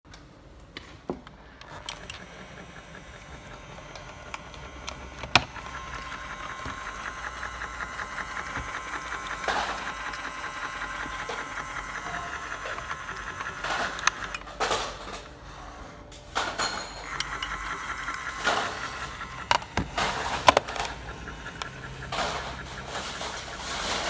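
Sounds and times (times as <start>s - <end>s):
sharp plastic clicks: 0.1s - 15.5s, 16.2s - 24.0s
small electric motor whirring: 1.6s - 24.0s.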